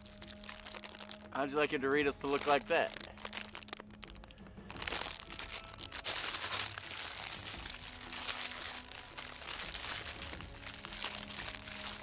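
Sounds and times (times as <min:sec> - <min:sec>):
crushed chips rustling: 0:00.0 - 0:12.0
foil chip bag crinkling: 0:00.0 - 0:12.0.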